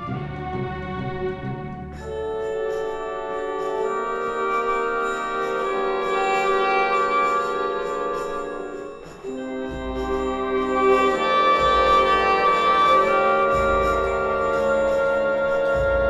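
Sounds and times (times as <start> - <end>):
orchestra playing sustained chords: 0.0 - 16.0.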